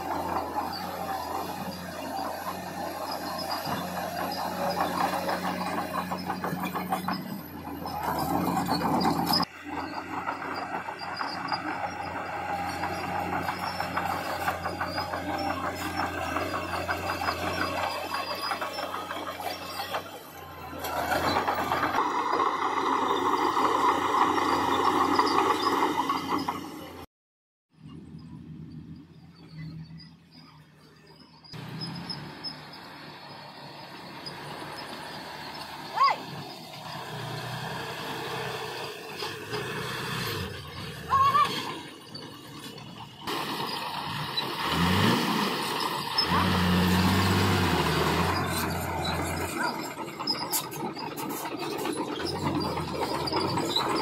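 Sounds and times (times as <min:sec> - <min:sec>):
diesel construction machinery running: 0:00.0 - 0:27.1, 0:27.8 - 0:54.0.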